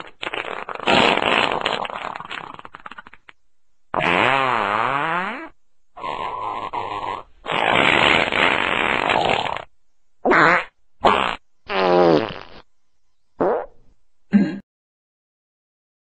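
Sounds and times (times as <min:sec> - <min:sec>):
fart sound effects: 0:00.0 - 0:12.7, 0:13.4 - 0:13.8.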